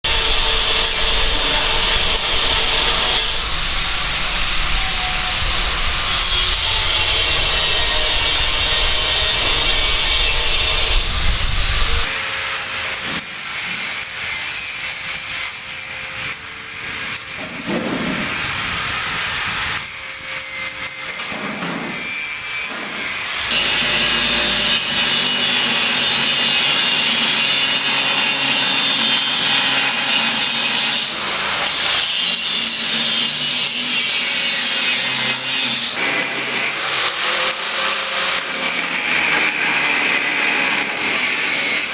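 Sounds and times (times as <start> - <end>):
sawing: 0.0 - 41.9
building site tool sounds: 0.1 - 41.9.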